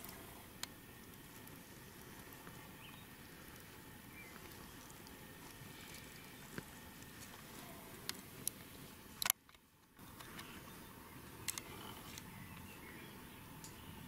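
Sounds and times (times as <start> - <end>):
faint steady background noise: 0.0 - 14.0.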